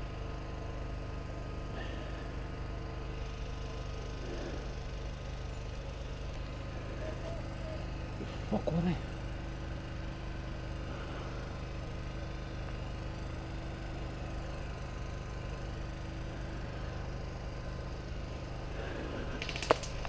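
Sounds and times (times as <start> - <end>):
steady low hum and hiss: 0.0 - 20.0.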